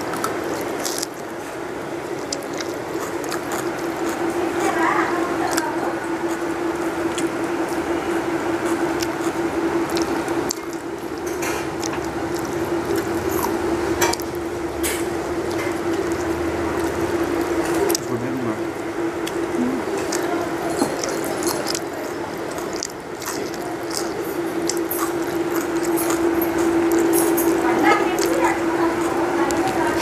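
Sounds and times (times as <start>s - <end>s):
person chewing: 0.0s - 30.0s
steady hum: 0.0s - 30.0s
wet squishing of food by hand: 0.0s - 30.0s.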